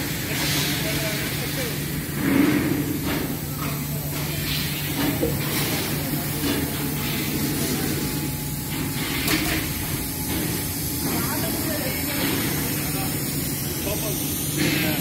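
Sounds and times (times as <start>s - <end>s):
factory machinery hum: 0.0s - 15.0s
machinery hiss: 0.0s - 15.0s.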